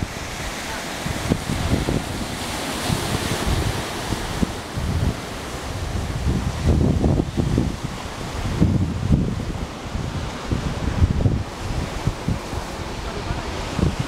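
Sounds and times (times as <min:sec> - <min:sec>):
surf breaking on rocks: 0:00.0 - 0:14.0
wind buffeting the microphone: 0:00.0 - 0:14.0.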